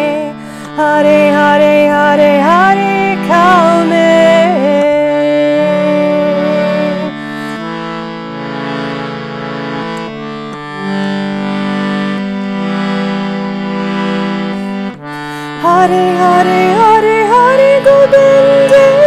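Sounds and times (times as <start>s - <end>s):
sustained held chords: 0.0s - 19.0s.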